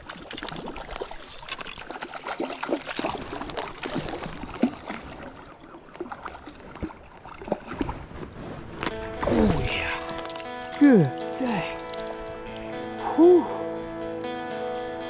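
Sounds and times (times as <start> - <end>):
water splashing and dripping: 0.0 - 8.2, 8.8 - 12.9.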